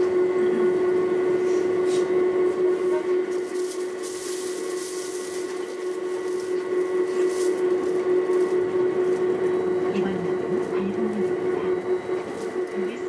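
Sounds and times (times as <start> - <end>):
mid-pitched whine: 0.0 - 13.0
train rolling noise: 1.9 - 13.0.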